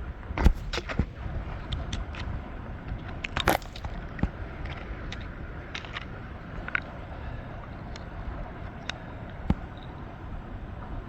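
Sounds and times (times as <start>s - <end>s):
beach gravel crunching: 0.4s - 10.0s.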